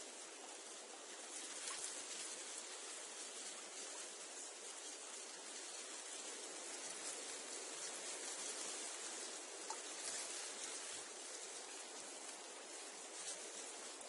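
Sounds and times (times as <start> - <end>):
reeds rustling in wind: 0.0 - 14.0.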